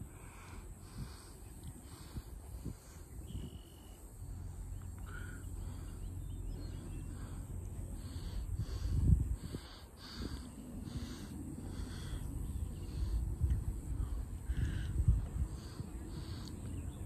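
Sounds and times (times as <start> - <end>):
faint bird calls: 0.0 - 17.0
low uneven rumble: 0.0 - 17.0.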